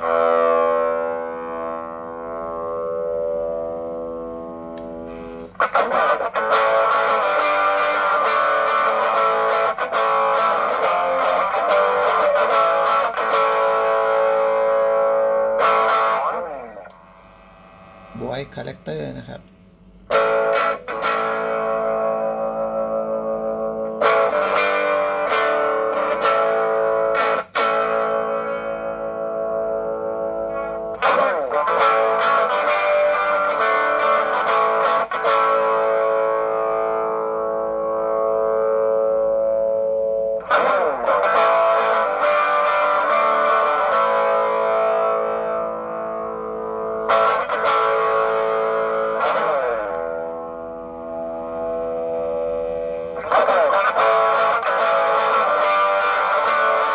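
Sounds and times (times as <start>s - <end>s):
overdriven electric guitar chords: 0.0s - 56.9s.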